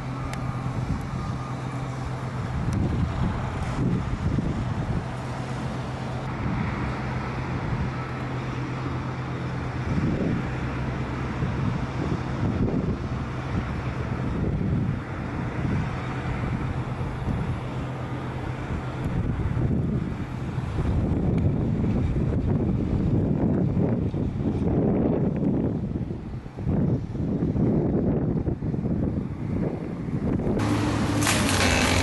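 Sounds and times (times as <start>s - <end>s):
wind buffeting microphone: 0.0s - 8.5s, 9.1s - 32.0s
engine humming: 0.0s - 27.0s, 27.6s - 32.0s.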